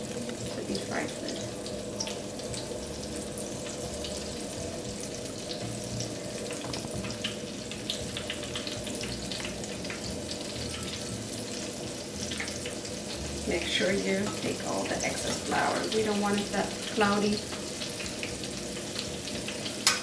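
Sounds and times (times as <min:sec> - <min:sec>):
deep-frying sizzle with crackles: 0:00.0 - 0:20.0.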